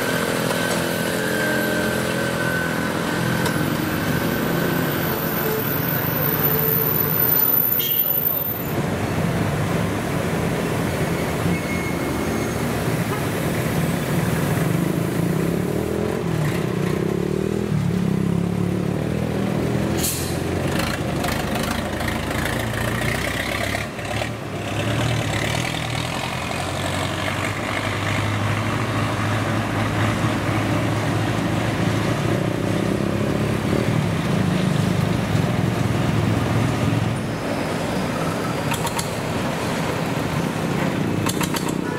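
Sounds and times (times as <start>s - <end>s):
motorbikes: 0.0s - 41.9s
street traffic: 0.0s - 41.9s.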